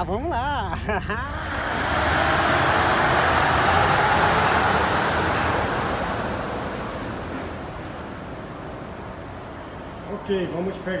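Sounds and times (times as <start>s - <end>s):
train rushing hiss: 1.2s - 10.1s.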